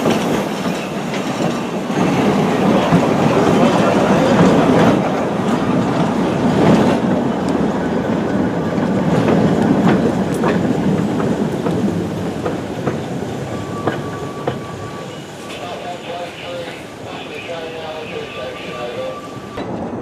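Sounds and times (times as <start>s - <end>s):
train wagons rolling past: 0.0s - 20.0s.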